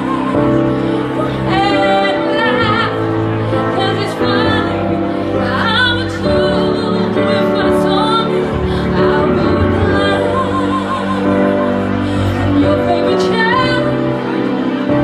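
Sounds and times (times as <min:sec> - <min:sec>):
instrumental backing music: 0:00.0 - 0:15.0
woman singing with vibrato: 0:00.0 - 0:15.0.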